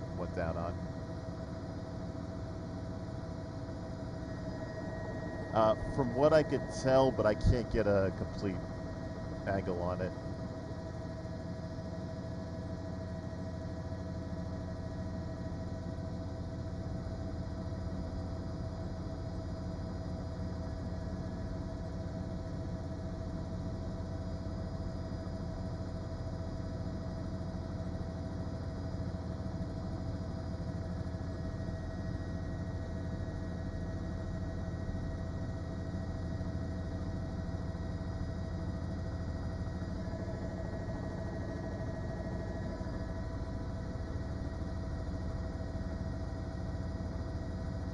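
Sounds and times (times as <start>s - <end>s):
helicopter engine and rotor drone: 0.0s - 47.9s.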